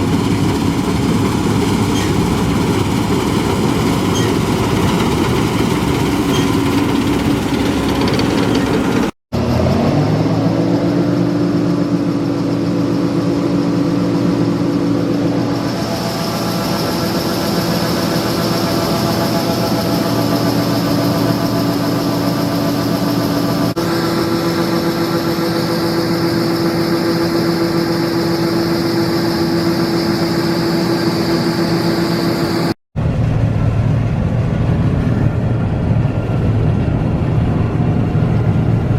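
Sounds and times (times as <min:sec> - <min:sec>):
combine harvester engine drone: 0:00.0 - 0:38.9
steady whine: 0:00.0 - 0:38.9.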